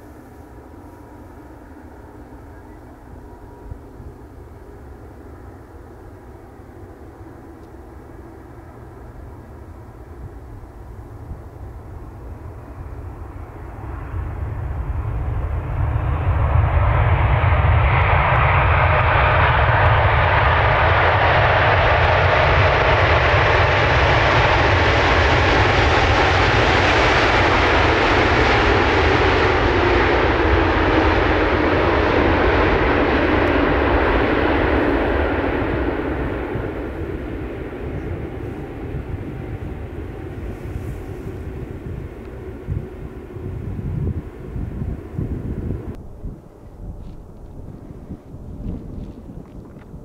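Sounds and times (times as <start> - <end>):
jet engines roaring: 0.0 - 48.6.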